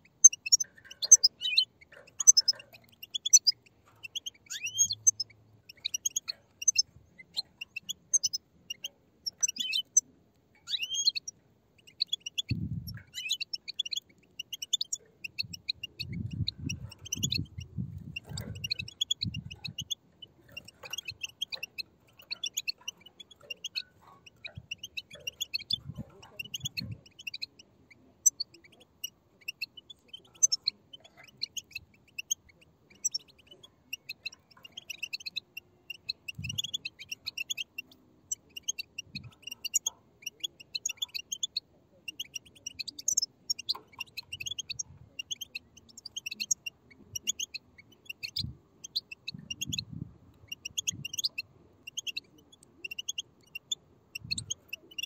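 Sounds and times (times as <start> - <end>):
chicks twittering begging calls: 0.0 - 55.0.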